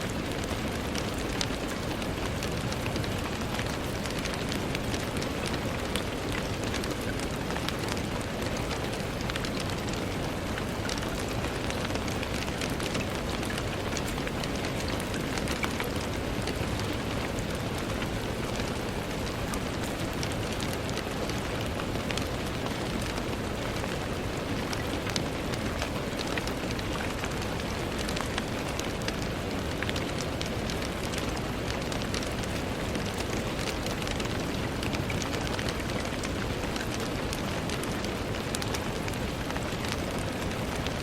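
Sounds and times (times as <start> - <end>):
rain on a window: 0.0 - 41.0.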